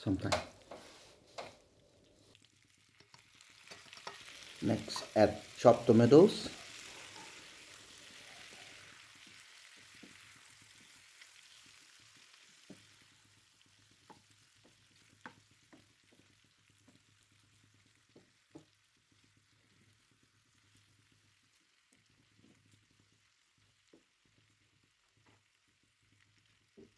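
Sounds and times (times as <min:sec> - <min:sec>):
frying pan sizzling: 0:00.0 - 0:26.9.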